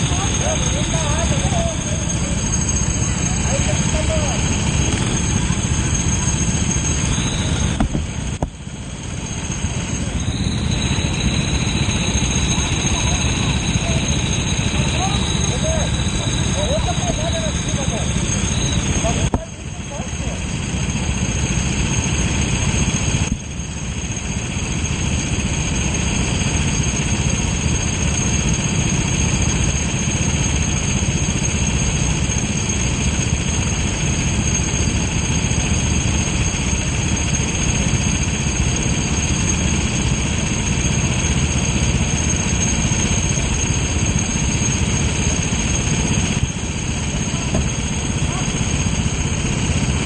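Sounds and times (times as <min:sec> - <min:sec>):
kart engine running: 0:00.0 - 0:50.0.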